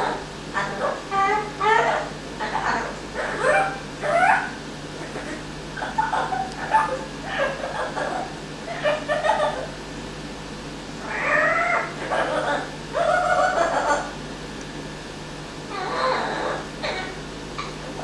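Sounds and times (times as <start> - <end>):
parrot calling: 0.0 - 9.8, 11.0 - 14.2, 15.7 - 18.0.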